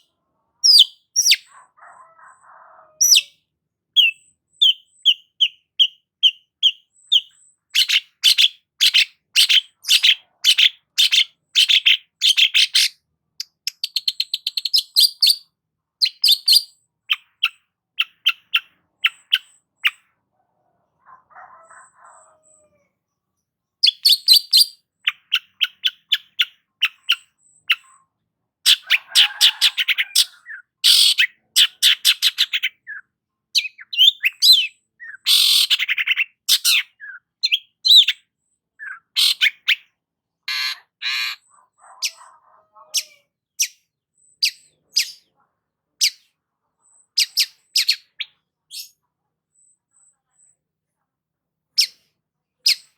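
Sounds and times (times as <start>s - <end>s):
bird chattering song: 0.0s - 1.5s, 3.0s - 20.2s, 23.8s - 50.6s, 51.7s - 52.9s.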